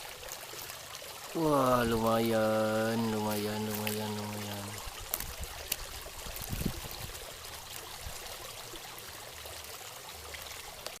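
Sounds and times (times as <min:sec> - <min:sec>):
running trickling water: 0:00.0 - 0:11.0.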